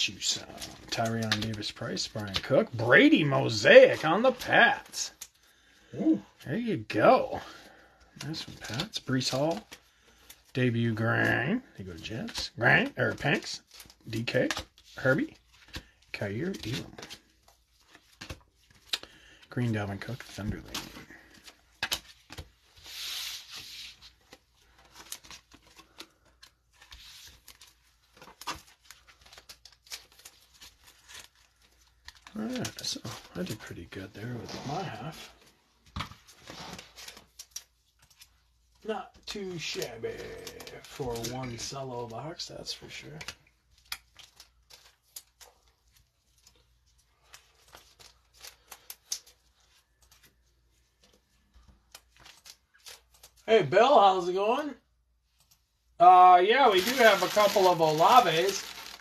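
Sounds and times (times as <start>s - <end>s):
cards rustling and clicking: 0.1s - 6.4s, 7.1s - 53.5s, 55.3s - 59.0s.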